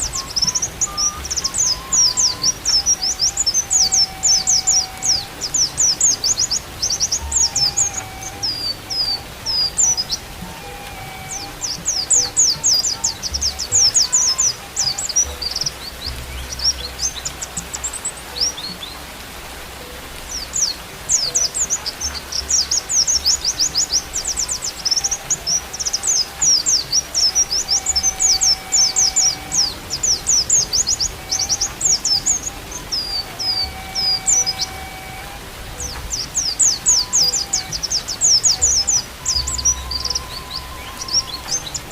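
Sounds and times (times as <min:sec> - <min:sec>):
bird singing high twittering song: 0:00.0 - 0:41.9
flute playing long notes: 0:00.0 - 0:41.9.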